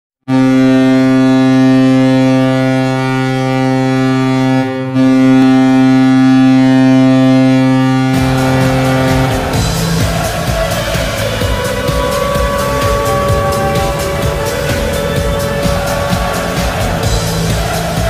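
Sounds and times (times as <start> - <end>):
low-pitched goal horn blast: 0.3 - 18.0.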